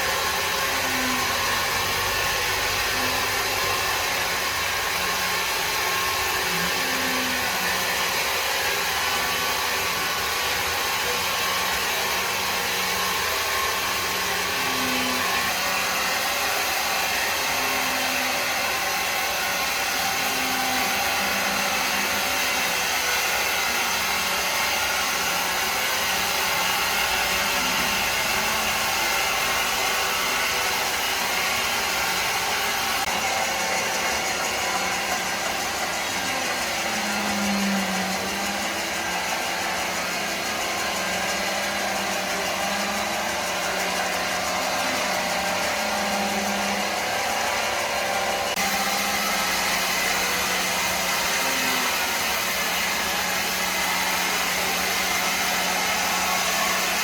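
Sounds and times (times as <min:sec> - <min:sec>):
woodworking machinery whirring: 0:00.0 - 0:57.0.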